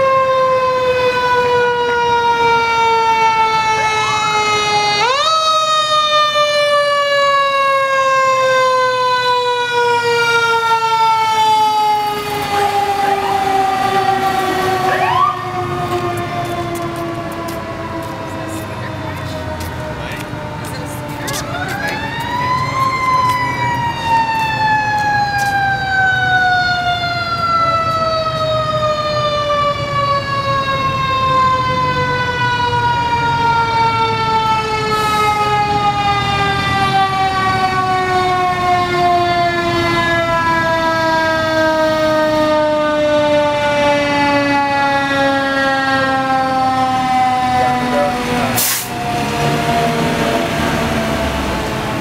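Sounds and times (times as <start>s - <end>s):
mechanical siren wailing: 0.0s - 52.0s.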